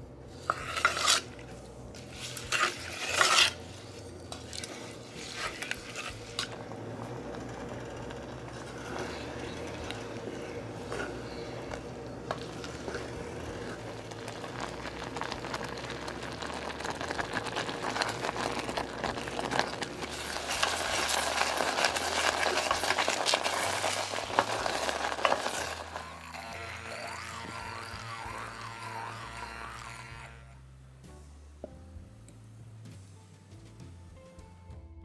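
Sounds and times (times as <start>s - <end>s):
jam bubbling in a saucepan: 0.0s - 32.9s.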